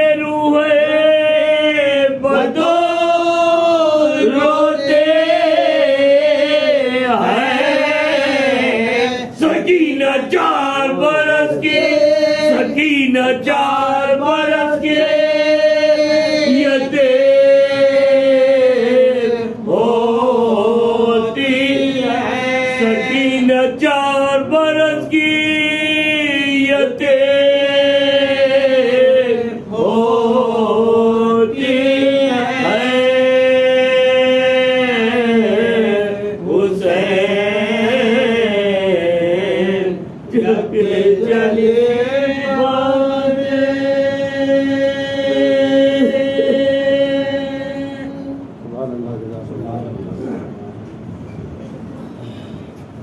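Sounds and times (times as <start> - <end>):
men chanting a lament: 0.0 - 48.6.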